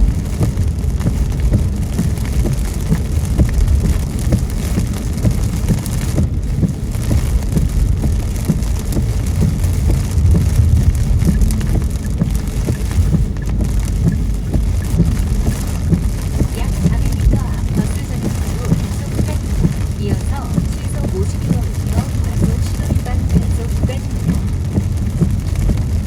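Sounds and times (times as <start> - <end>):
car rumbling on wet road: 0.0 - 26.0
rain pattering on car windshield: 0.0 - 26.0.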